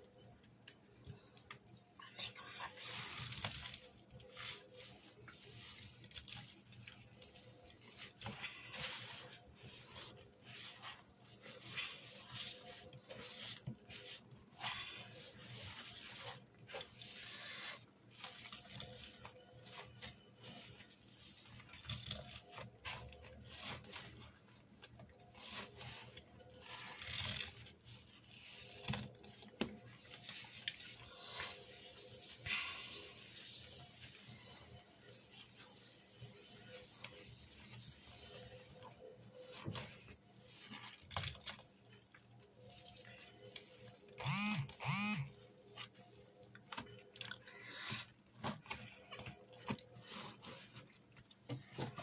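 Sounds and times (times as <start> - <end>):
sponge squelching in soapy water: 2.3 - 52.0.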